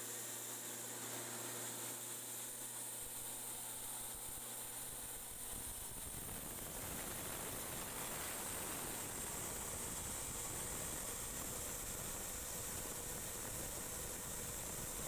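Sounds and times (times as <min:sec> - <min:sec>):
machine hissing and humming: 0:00.0 - 0:15.0.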